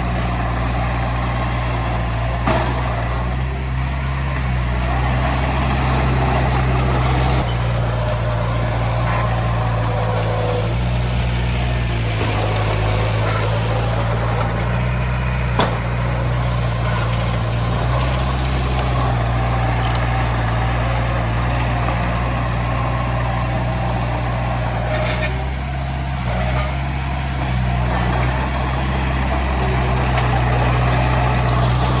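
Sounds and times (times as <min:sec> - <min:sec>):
diesel earthmoving machinery: 0:00.0 - 0:32.0.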